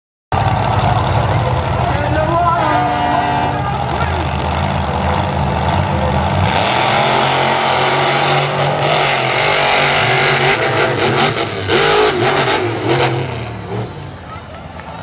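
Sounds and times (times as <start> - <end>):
monster truck engines revving: 0.3 - 15.0.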